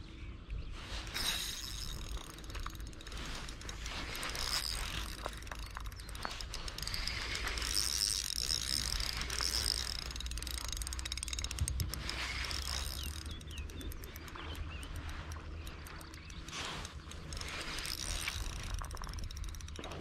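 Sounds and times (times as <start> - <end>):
fishing reel gears ticking: 0.9 - 20.0.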